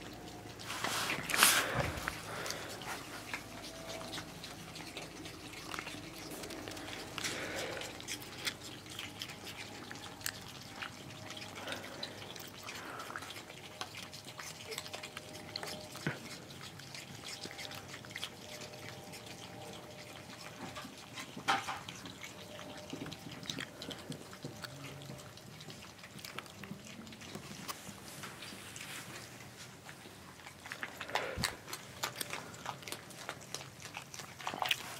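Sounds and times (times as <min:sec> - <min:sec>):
animals chewing food: 0:00.0 - 0:34.9.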